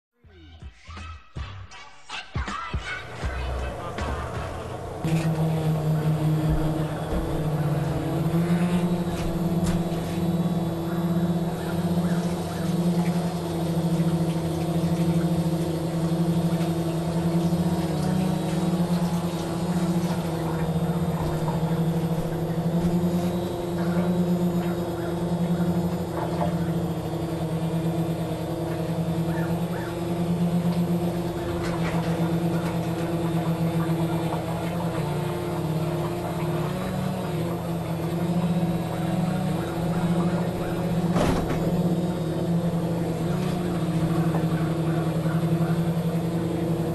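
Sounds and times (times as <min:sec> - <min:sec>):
quadcopter propellers humming: 0:02.9 - 0:46.9.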